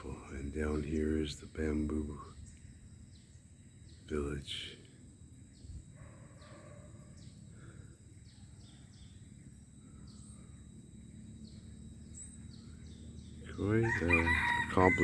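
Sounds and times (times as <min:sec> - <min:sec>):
faint outdoor ambience: 0:00.0 - 0:15.0
small birds chirping: 0:00.0 - 0:15.0.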